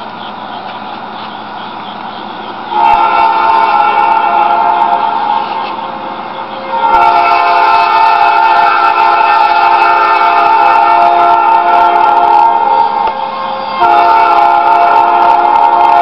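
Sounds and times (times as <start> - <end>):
locomotive air horn blasts: 2.7 - 16.0.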